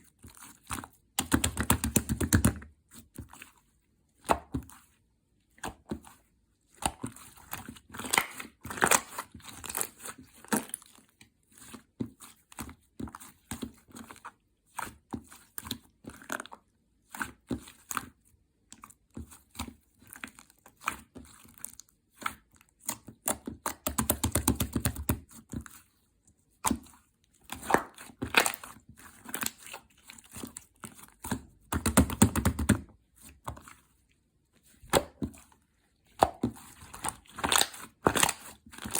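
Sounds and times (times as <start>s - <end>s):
slime squishing by hand: 0.0s - 38.9s.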